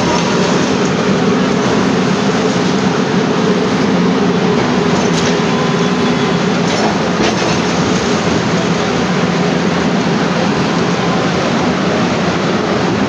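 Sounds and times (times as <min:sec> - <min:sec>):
demolition machinery rumbling: 0:00.0 - 0:13.0.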